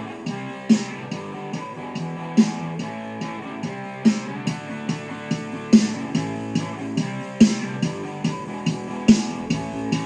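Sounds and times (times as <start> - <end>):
bass and drum backing: 0.0 - 10.0
electric guitar: 0.0 - 10.0.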